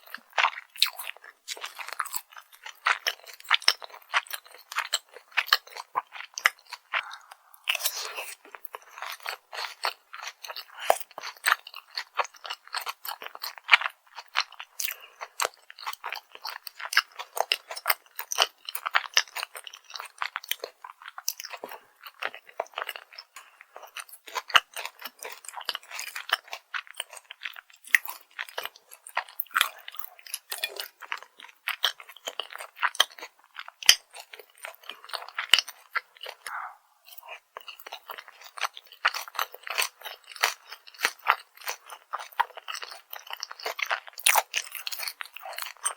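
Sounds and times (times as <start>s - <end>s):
person chewing crunchy food: 0.0s - 45.9s.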